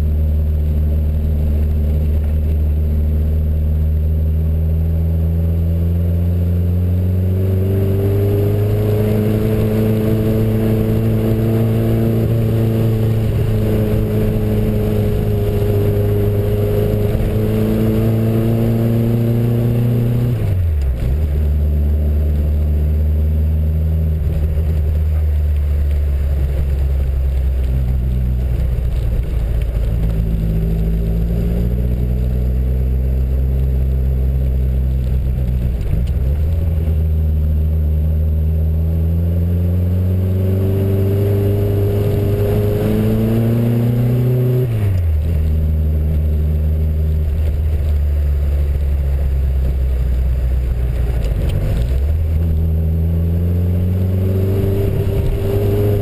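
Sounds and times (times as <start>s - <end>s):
car engine heard from inside: 0.0s - 56.0s.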